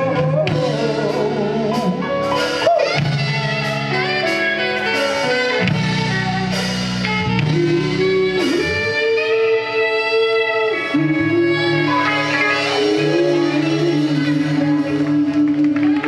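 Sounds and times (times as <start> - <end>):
guitar: 0.0 - 16.0
live band music: 0.0 - 16.0.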